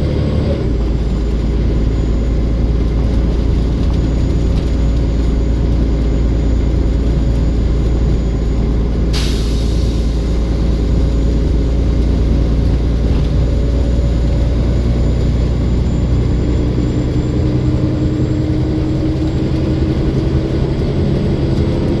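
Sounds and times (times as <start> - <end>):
bus engine running under load: 0.0 - 22.0
turbo whine: 0.0 - 22.0.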